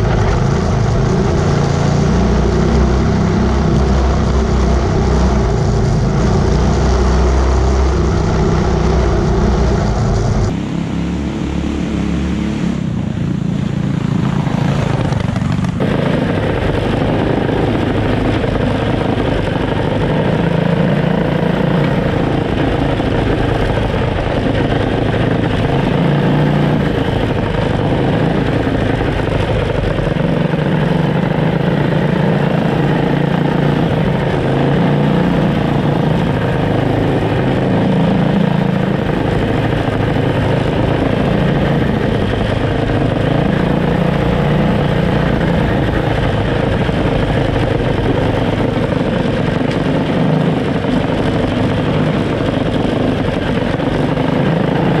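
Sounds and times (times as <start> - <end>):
go-kart engines running: 0.0 - 55.0.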